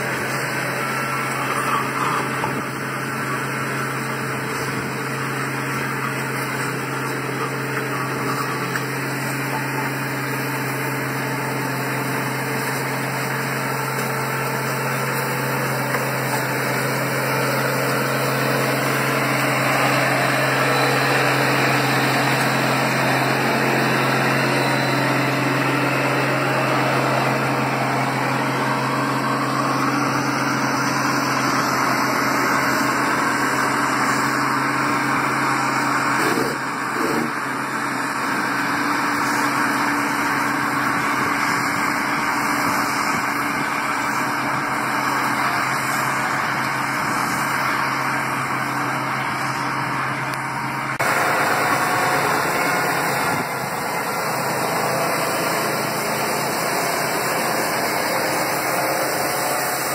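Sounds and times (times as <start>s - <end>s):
diesel paver engine running: 0.0s - 59.9s.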